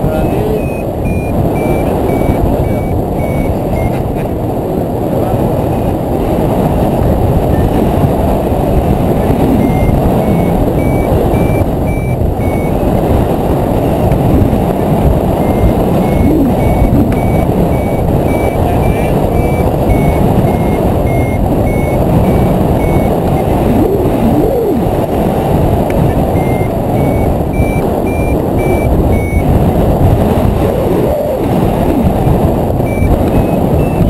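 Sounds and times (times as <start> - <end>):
variometer beeping: 0.0 - 4.1, 7.4 - 8.1, 8.7 - 34.0
wind rushing over microphone: 0.0 - 34.0.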